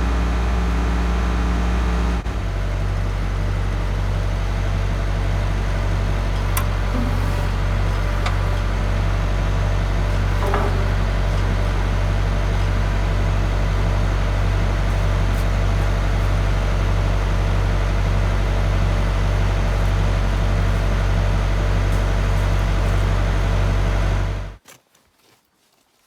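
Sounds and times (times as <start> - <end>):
engine droning: 0.0 - 24.6.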